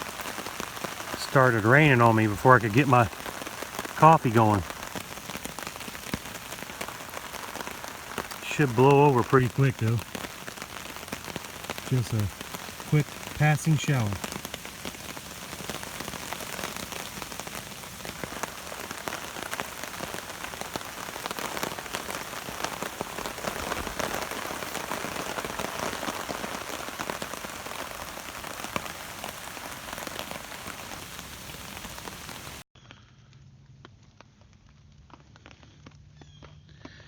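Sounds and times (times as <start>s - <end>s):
rain hissing and pattering: 0.0s - 32.7s.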